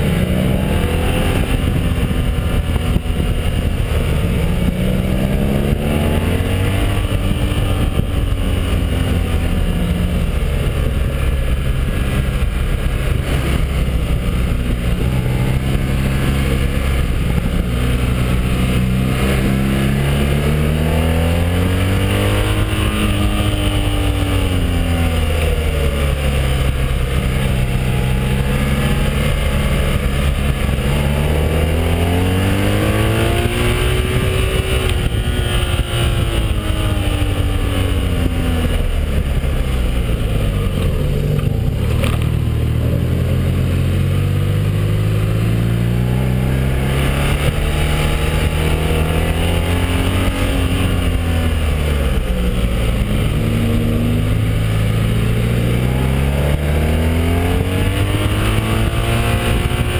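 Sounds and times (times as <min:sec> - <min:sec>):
motorcycle engine revving: 0:00.0 - 0:59.9
wind noise on microphone: 0:00.0 - 0:59.9.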